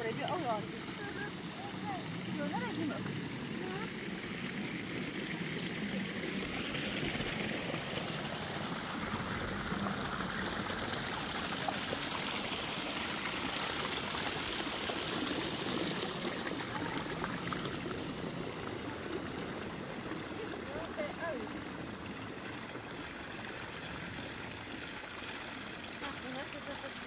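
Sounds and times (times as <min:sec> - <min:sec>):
water running: 0:00.0 - 0:27.0.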